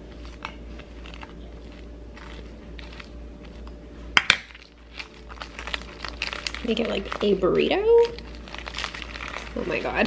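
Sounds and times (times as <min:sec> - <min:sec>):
fork scraping filling in wrap: 0:00.0 - 0:03.8, 0:04.5 - 0:10.0.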